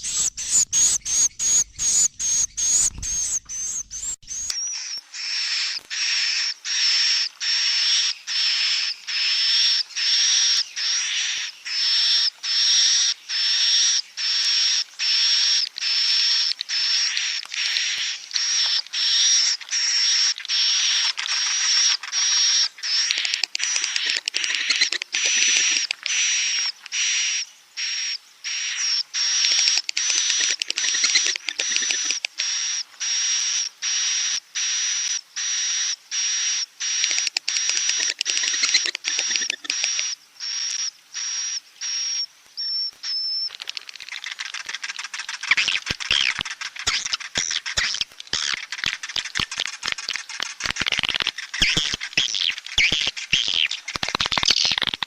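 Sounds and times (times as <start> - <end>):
twittering chirps and clicks: 0.0 - 14.4, 15.0 - 55.0
recorded swiftlet calls: 0.0 - 55.0.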